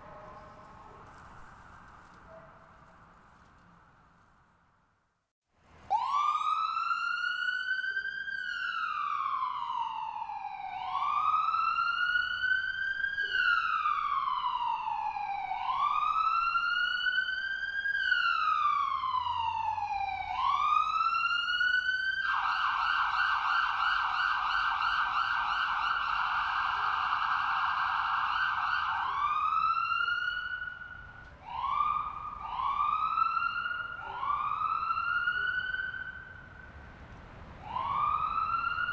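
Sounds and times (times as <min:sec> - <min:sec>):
ambulance siren wailing: 0:00.0 - 0:02.2, 0:05.9 - 0:38.9.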